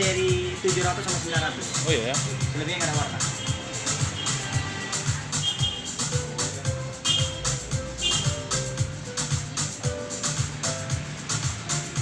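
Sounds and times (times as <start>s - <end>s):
music with drum beat: 0.0s - 12.0s.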